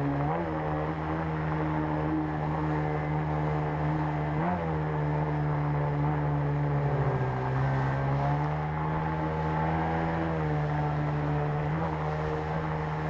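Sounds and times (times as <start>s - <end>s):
outboard motor running hard: 0.0s - 13.0s.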